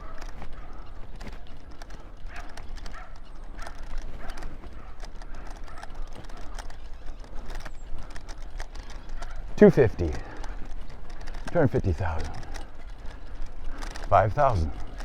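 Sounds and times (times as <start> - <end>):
clopping steps: 0.0 - 15.0.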